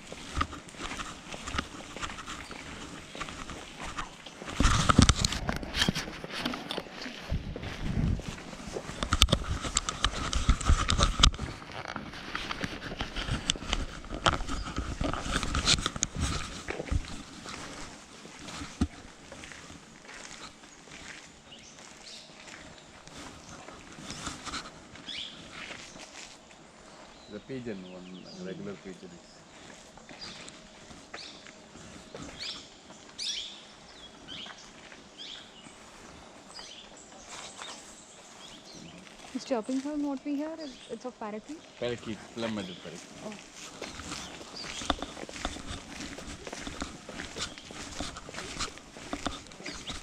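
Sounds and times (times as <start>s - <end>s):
footsteps crunching: 0.0s - 50.0s.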